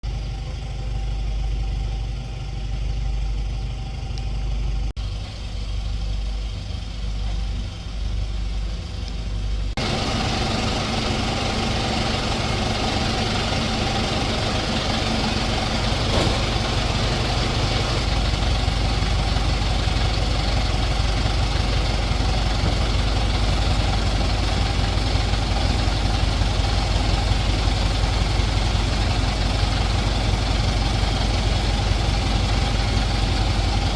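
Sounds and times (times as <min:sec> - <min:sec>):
truck engine running: 0:00.0 - 0:33.9.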